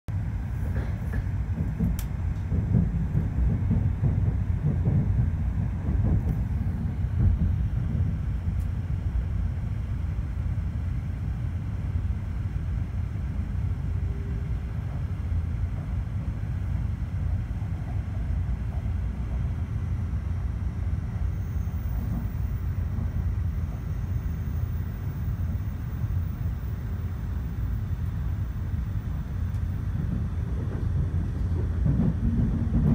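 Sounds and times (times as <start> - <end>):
train cabin low rumble: 0.1 - 32.9.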